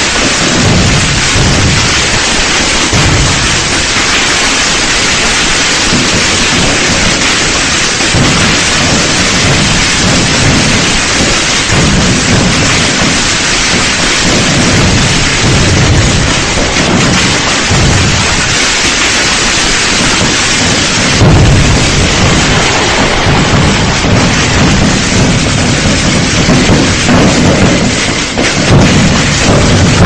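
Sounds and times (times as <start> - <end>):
fireworks bursts and booms: 0.0 - 30.0.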